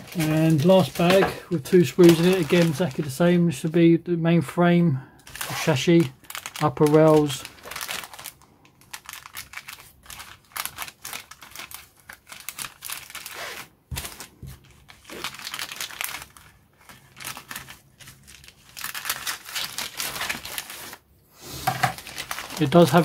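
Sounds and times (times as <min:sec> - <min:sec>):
plastic bag crinkling: 0:00.0 - 0:03.8, 0:05.2 - 0:23.0.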